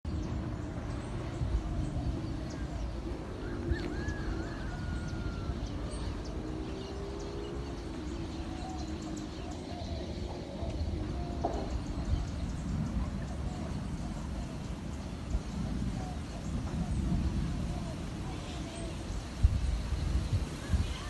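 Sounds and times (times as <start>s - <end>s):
rainstorm rushing: 0.1s - 9.2s, 10.1s - 21.0s.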